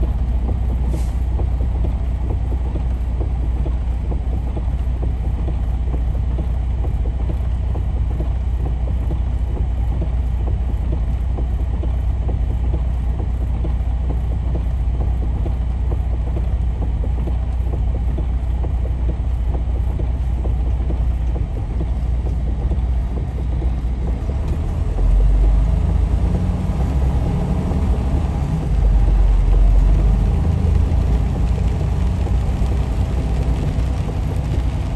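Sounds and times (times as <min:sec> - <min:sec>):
road noise: 0:00.0 - 0:34.9
truck engine rumbling: 0:00.0 - 0:34.9.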